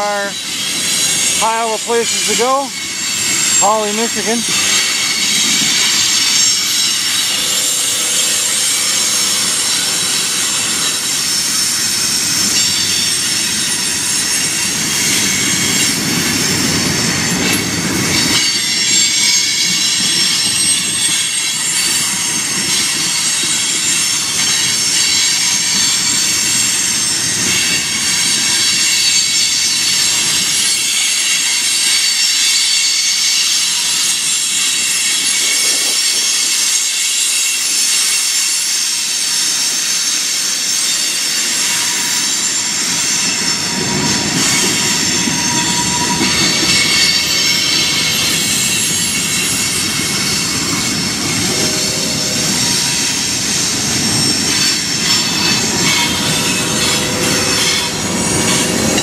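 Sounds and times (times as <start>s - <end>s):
wheels rumbling on rail: 0.0s - 38.1s, 40.2s - 59.0s
train brakes squealing: 0.0s - 59.0s.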